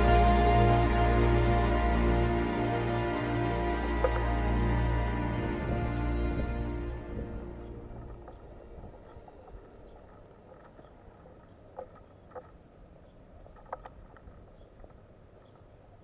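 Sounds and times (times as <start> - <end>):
faint low rumble: 0.0 - 16.0.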